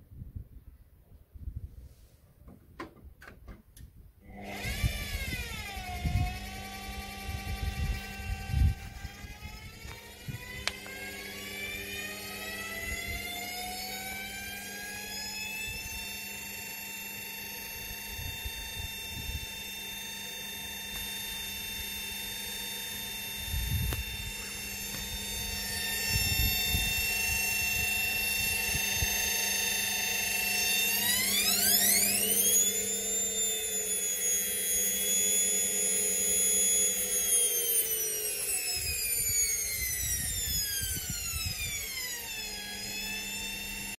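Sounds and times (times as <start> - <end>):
washing machine motor whine: 4.2 - 44.0.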